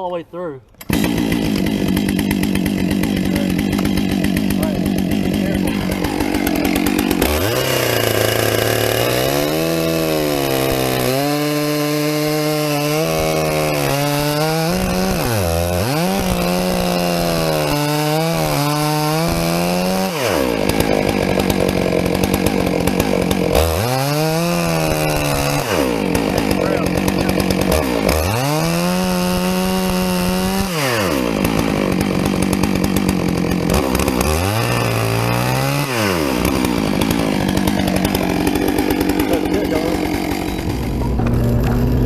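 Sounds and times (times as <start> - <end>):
chainsaw cutting log: 0.7 - 42.0.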